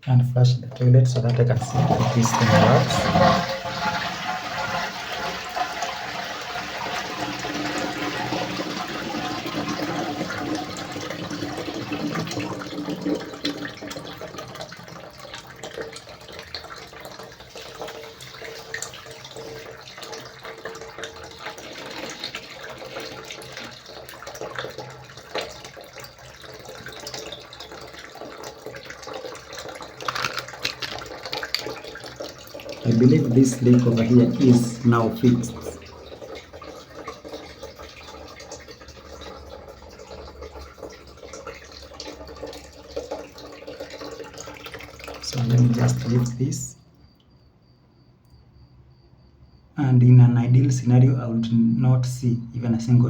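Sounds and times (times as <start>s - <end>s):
toilet flushing: 0.0s - 46.8s
toilet tank refilling: 0.0s - 46.8s.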